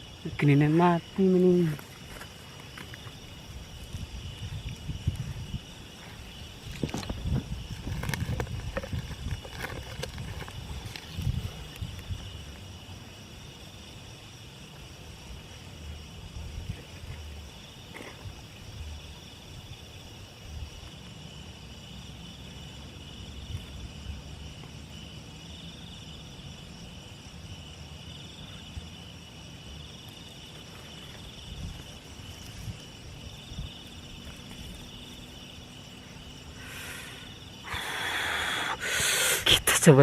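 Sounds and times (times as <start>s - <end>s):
night insects chirring: 0.0s - 40.0s.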